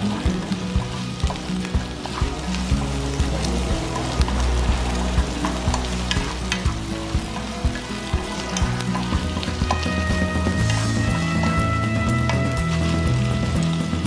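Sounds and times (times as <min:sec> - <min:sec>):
wooden spatula scraping a pan: 0:00.0 - 0:13.5
food sizzling in oil: 0:00.0 - 0:14.0.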